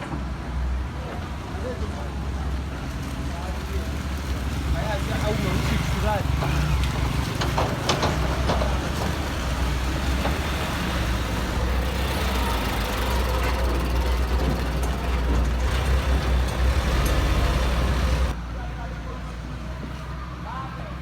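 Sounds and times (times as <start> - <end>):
large engine humming: 2.4 - 21.0.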